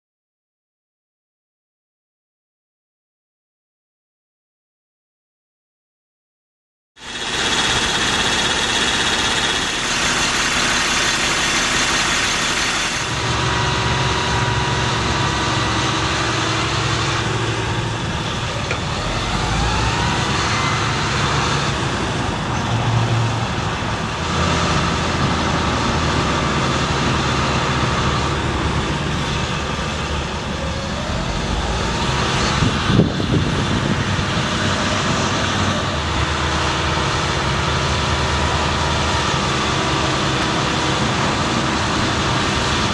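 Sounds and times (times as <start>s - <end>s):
truck engine running: 7.0s - 42.9s.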